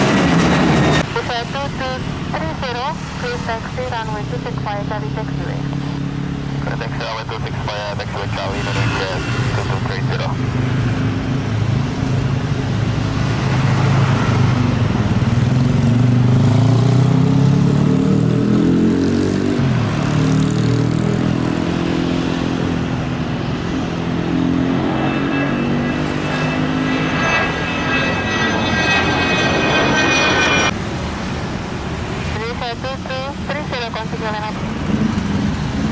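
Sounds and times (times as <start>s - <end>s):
high turbine whine: 0.0s - 16.1s, 17.7s - 35.9s
jet taking off: 0.0s - 35.9s.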